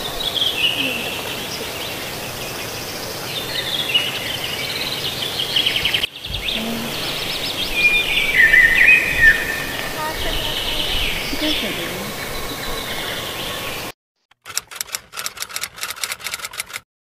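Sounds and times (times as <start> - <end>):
birds chirping and trilling: 0.0 - 13.9.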